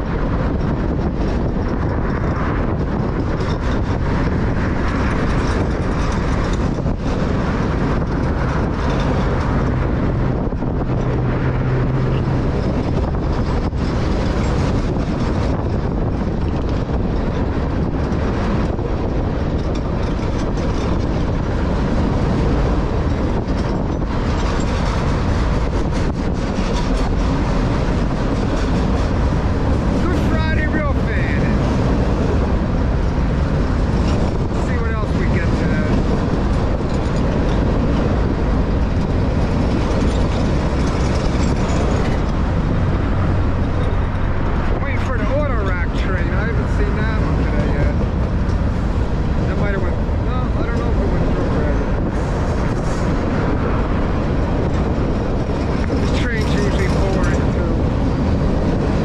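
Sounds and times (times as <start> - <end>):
freight train rolling on rails: 0.0 - 59.0.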